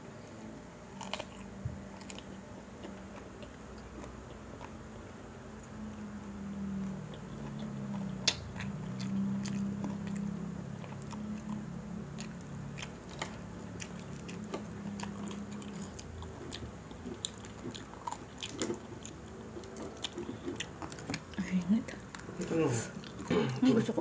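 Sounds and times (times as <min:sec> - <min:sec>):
chewing and crunching: 0:00.0 - 0:24.0
low steady hum: 0:00.0 - 0:24.0.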